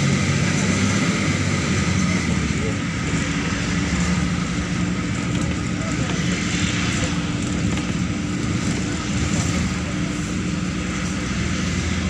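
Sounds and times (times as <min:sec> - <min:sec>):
bus diesel engine hum: 0:00.0 - 0:12.0
road noise: 0:00.0 - 0:12.0.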